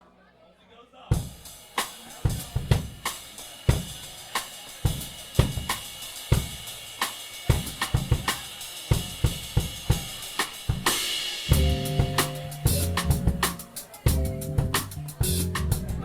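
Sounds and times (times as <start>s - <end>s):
drum kit playing a beat: 1.1s - 16.0s.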